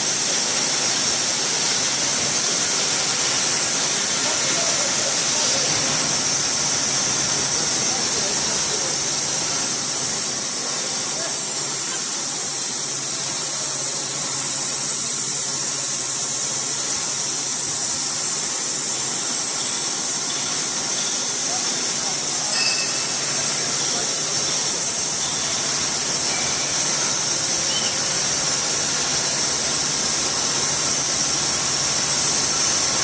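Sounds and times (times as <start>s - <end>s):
sawmill running with loud hiss: 0.0s - 33.0s.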